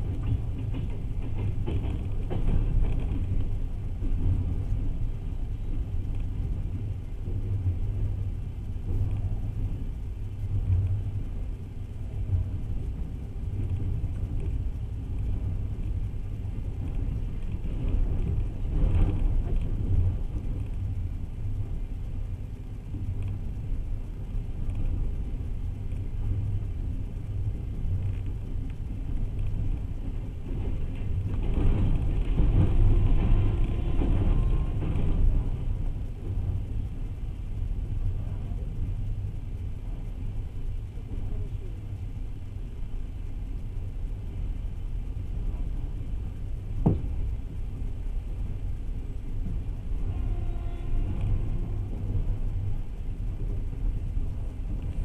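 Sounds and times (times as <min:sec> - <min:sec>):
train wheels on rails rumbling: 0:00.0 - 0:55.0.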